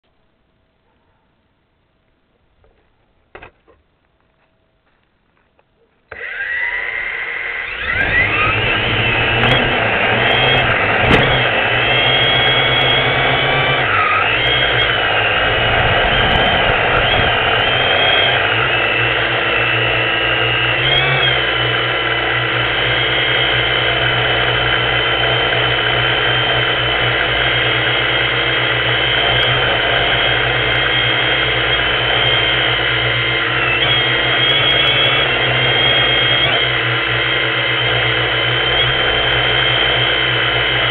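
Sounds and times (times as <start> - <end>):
drone propellers whining: 6.1 - 40.9.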